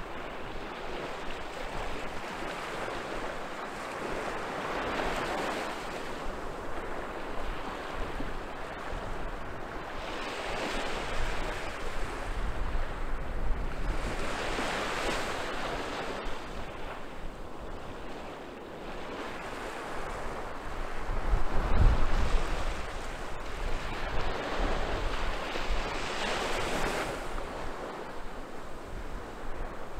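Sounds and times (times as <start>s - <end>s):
waves washing up a beach: 0.0s - 29.9s.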